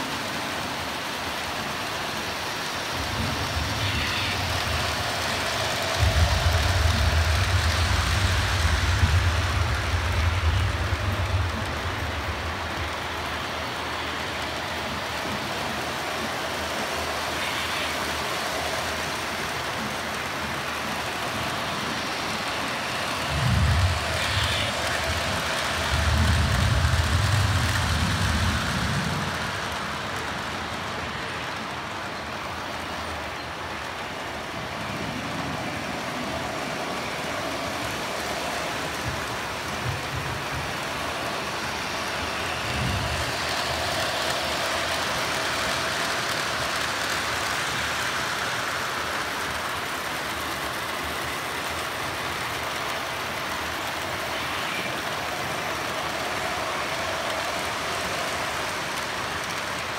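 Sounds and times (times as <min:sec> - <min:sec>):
model trains rolling on track: 0:00.0 - 0:59.9.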